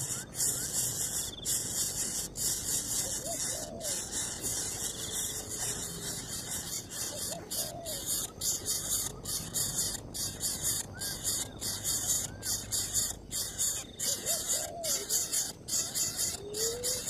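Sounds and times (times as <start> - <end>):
faint bird chirps: 0.0 - 17.0
nestling birds begging calls: 0.0 - 17.0.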